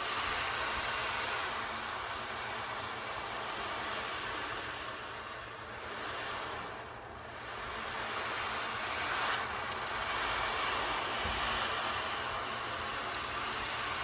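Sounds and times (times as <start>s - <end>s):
beads rolling hiss: 0.0s - 14.0s.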